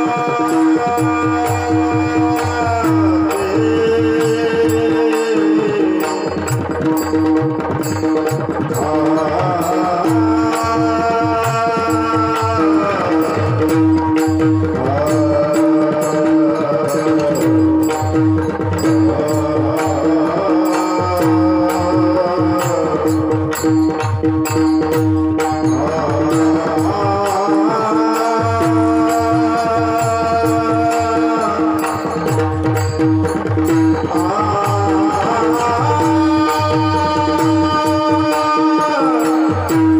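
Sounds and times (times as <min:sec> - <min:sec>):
harmonium drone: 0:00.0 - 0:39.9.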